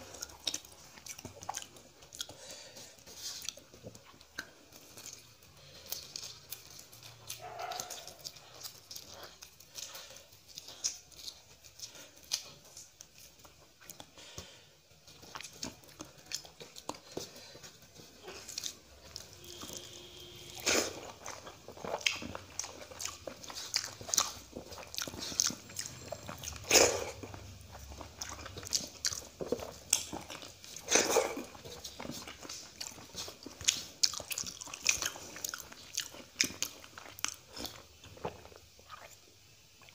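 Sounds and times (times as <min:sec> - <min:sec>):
fingers squishing rice: 0:00.0 - 0:39.2
wet chewing and mouth clicks: 0:00.0 - 0:39.9.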